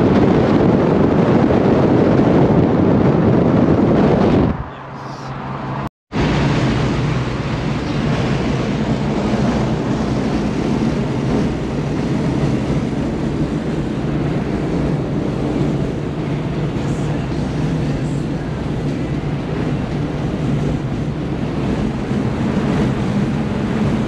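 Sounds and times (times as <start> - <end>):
car engine drone: 0.0 - 24.0
wind and road noise: 0.0 - 24.0.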